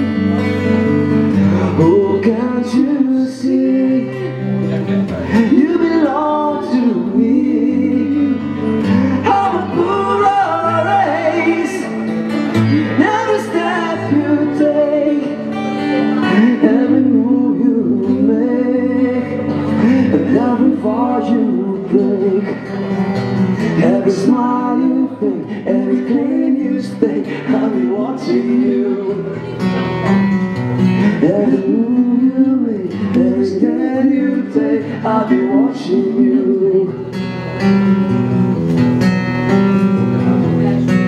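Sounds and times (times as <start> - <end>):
strummed acoustic guitar: 0.0 - 41.0
men singing: 1.3 - 29.6, 31.0 - 37.1.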